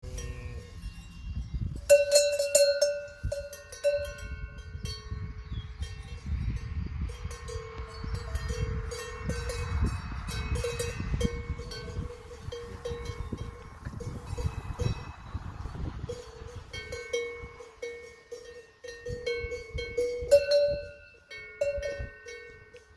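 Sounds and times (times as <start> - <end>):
cowbells clanking: 0.0 - 22.9.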